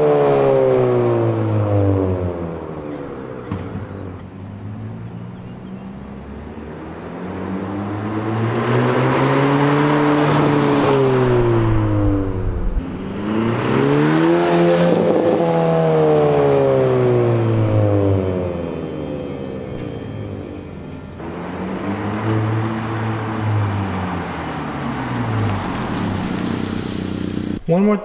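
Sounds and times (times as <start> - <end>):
car exhaust accelerating past: 0.0 - 27.7.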